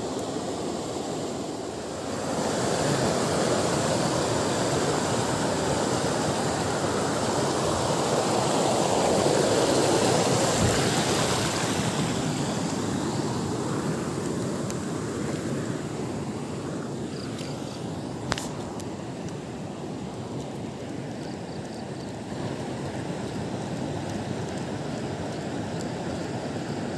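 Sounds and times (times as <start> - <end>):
river water rushing over rocks: 0.0 - 26.9.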